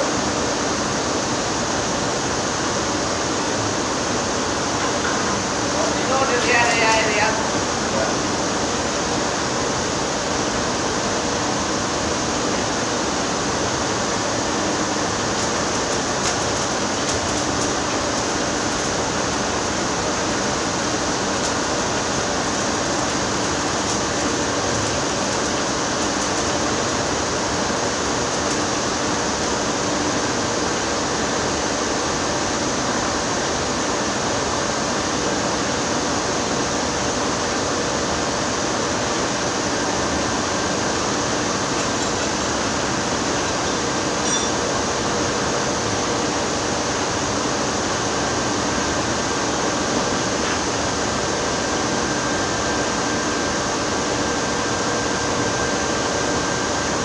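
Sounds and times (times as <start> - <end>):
machinery hiss and hum: 0.0 - 57.0.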